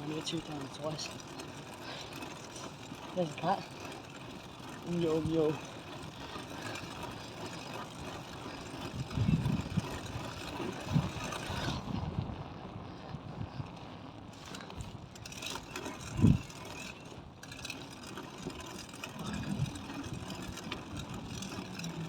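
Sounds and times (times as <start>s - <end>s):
bicycle riding rush: 0.0s - 22.0s.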